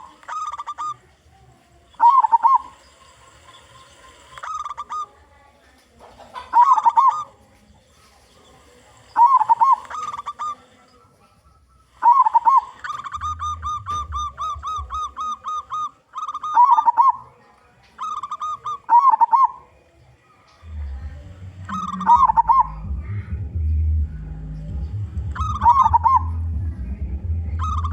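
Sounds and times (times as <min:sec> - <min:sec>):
dove cooing: 0:00.0 - 0:05.4, 0:06.1 - 0:07.4, 0:08.0 - 0:27.9.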